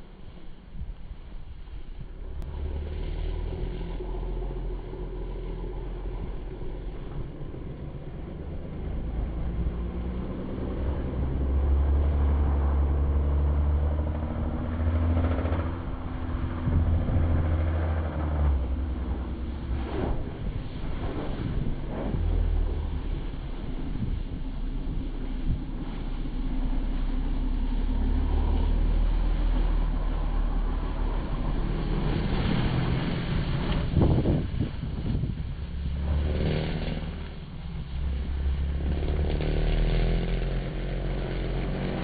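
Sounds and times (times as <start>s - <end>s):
wheels spinning in snow: 0.0s - 42.0s
car engine revving: 2.2s - 42.0s.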